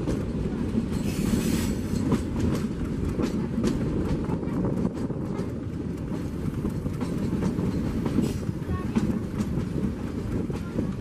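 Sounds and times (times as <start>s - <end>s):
train rumbling: 0.0s - 11.0s
wheels clicking over rail joints: 0.0s - 11.0s.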